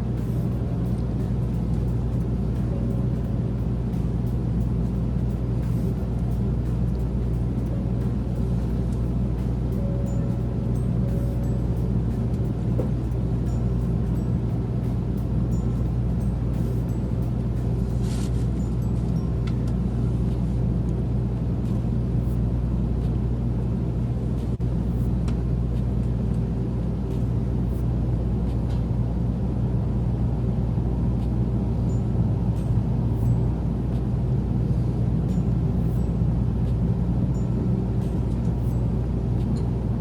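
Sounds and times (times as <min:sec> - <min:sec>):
low hum: 0:00.0 - 0:40.0
train rumble inside cabin: 0:00.0 - 0:40.0.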